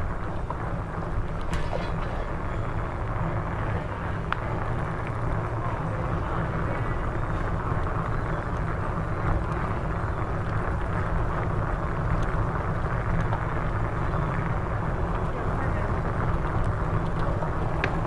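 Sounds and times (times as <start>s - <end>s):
bicycle tyres rolling on street: 0.0s - 18.0s.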